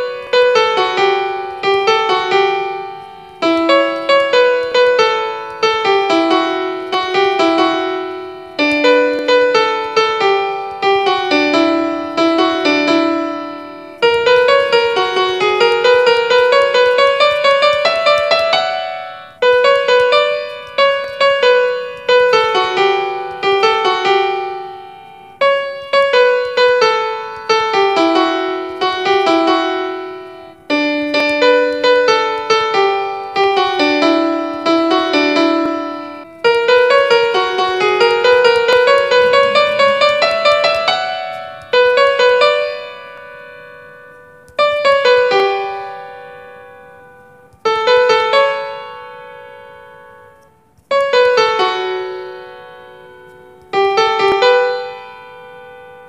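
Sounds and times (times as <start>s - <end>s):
solo piano melody: 0.0s - 56.0s.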